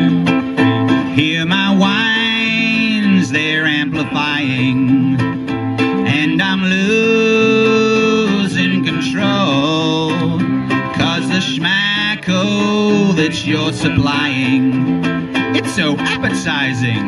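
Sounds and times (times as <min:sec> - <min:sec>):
electric bass guitar: 0:00.0 - 0:17.0
ukuleles strummed: 0:00.0 - 0:17.0.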